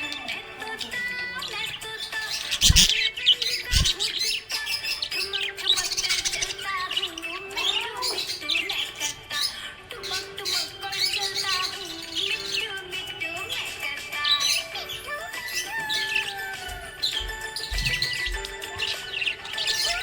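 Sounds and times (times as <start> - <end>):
budgerigars chirping and twittering: 0.0 - 20.0.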